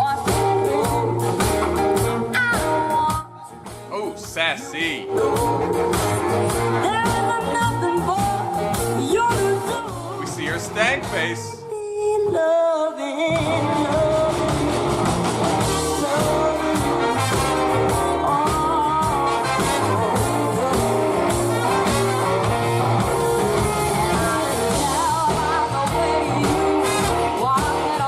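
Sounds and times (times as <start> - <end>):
band playing funky groove: 0.0 - 11.6, 13.3 - 28.0.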